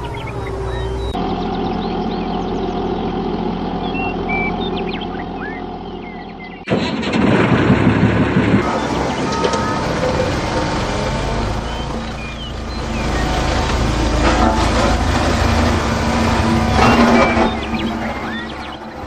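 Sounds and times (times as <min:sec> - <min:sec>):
loud rough engine: 0:00.0 - 0:19.0
vehicle engine running: 0:00.0 - 0:19.0.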